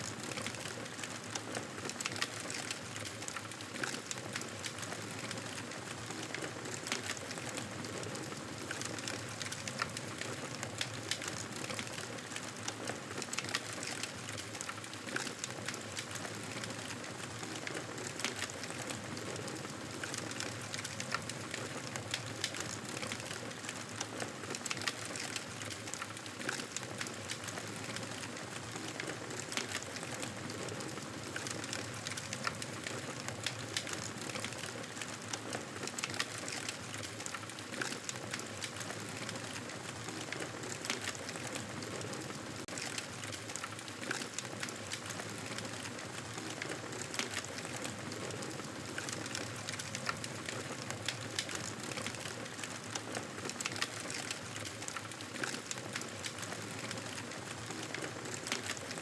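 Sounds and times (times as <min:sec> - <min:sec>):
campfire crackling and popping: 0:08.6 - 0:59.0.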